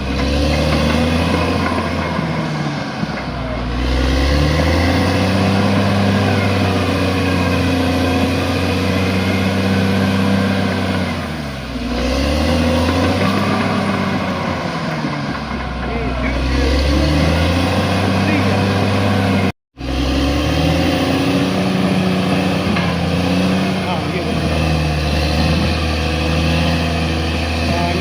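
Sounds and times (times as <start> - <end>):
bulldozer diesel engine under load: 0.0 - 28.0.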